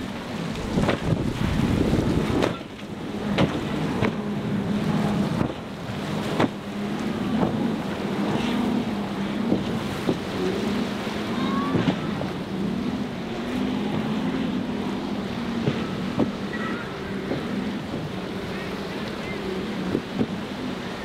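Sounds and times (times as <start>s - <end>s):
hull slapping waves: 0.0s - 21.0s
outboard motors droning: 0.0s - 21.0s
wind on microphone: 0.0s - 21.0s.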